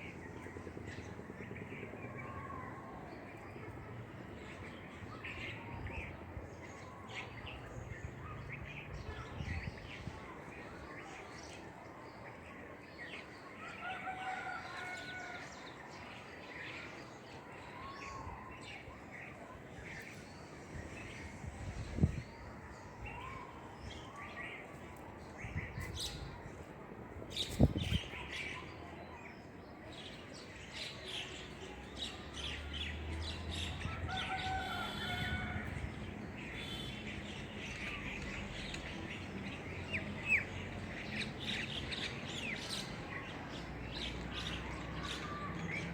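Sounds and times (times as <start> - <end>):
small birds chirping and trilling: 0.0 - 45.9.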